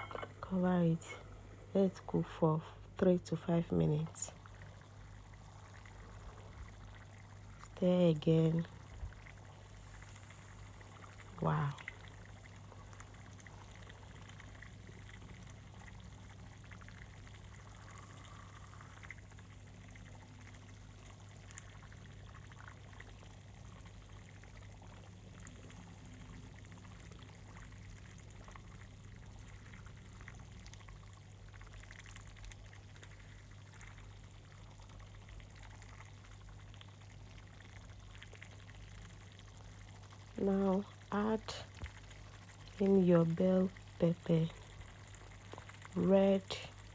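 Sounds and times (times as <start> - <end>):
steady low hum: 0.0 - 46.9
stew bubbling in a pot: 0.0 - 46.9.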